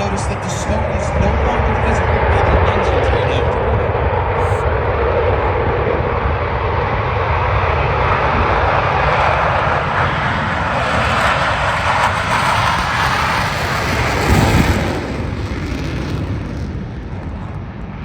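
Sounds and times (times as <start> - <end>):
jet engines roaring on takeoff: 0.0 - 18.0.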